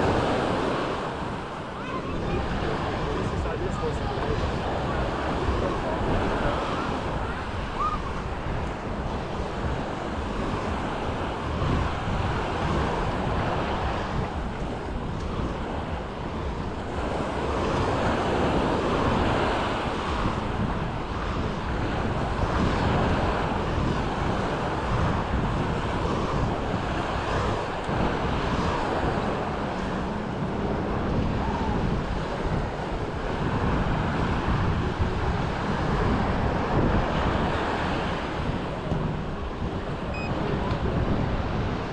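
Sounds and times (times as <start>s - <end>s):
sea waves washing onto beach: 0.0s - 41.9s
wind buffeting microphone: 0.0s - 41.9s.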